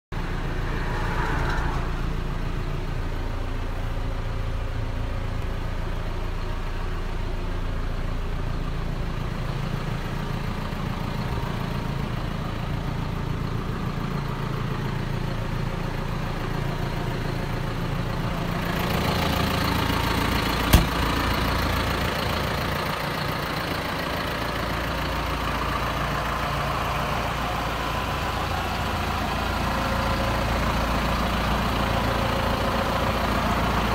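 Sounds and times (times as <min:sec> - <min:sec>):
diesel tractor engine idling: 0:00.1 - 0:33.9.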